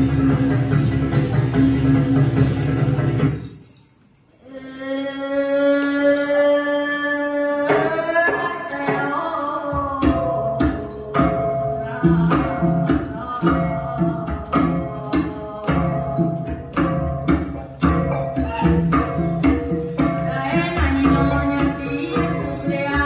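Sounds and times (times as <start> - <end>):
steady percussion beat: 0.0 - 3.9, 7.8 - 23.0
traditional dance music melody: 0.0 - 4.6, 5.5 - 23.0.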